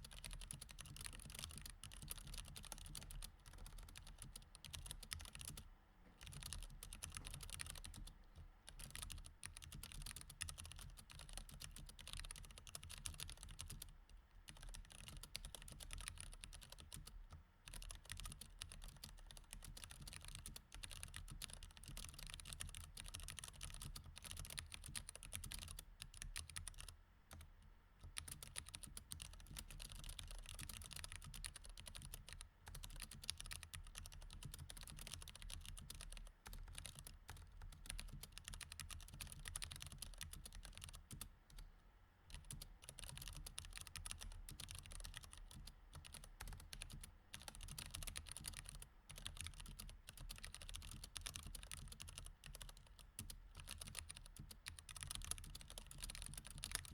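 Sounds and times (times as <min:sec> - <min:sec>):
mechanical keyboard typing: 0:00.0 - 0:05.6, 0:06.2 - 0:08.1, 0:08.7 - 0:41.6, 0:42.3 - 0:56.9.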